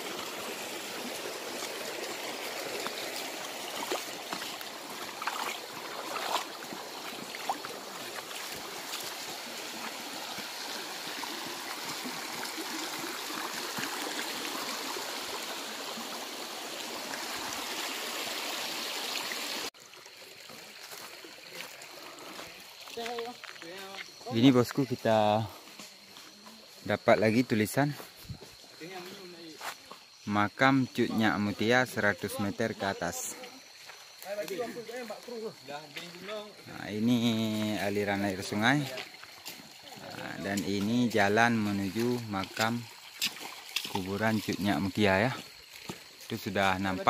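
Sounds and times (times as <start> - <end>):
stream running over rocks: 0.0 - 47.0.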